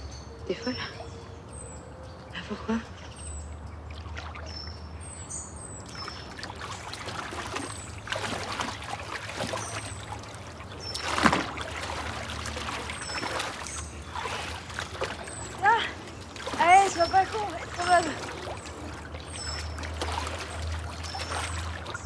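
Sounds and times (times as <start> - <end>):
birds chirping: 0.0 - 22.0
pool water splashing: 2.3 - 22.0.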